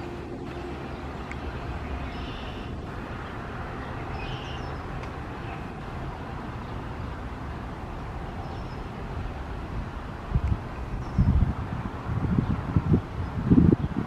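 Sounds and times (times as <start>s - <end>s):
diesel train rumbling: 0.0s - 13.2s.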